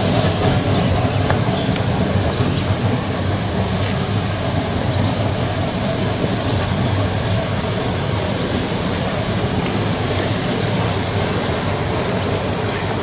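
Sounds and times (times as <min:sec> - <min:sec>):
steam locomotive rumbling: 0:00.0 - 0:13.0.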